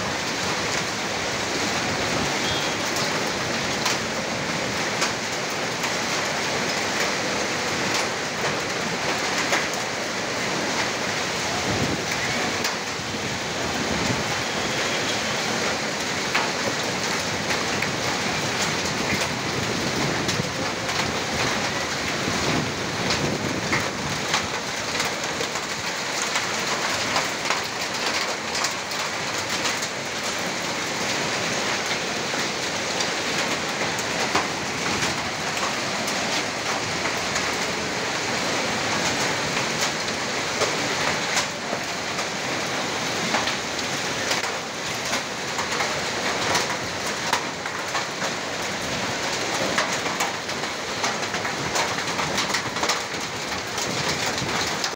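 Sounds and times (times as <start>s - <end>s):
heavy rain on street: 0.0s - 54.9s
raindrops ticking close by: 0.0s - 54.9s.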